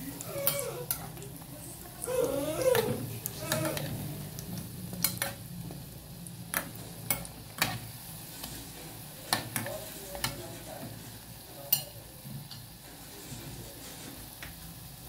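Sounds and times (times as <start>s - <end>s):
dough frying in hot oil: 0.0s - 15.0s.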